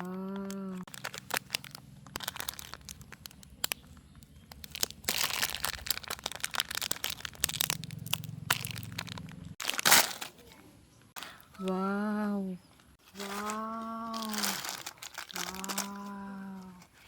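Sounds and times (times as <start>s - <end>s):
crunching and crackling handling: 0.0s - 11.8s, 12.7s - 17.0s.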